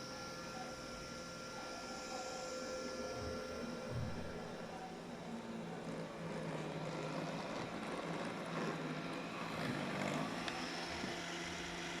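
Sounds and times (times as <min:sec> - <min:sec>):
robot vacuum motor hum: 0:00.0 - 0:12.0.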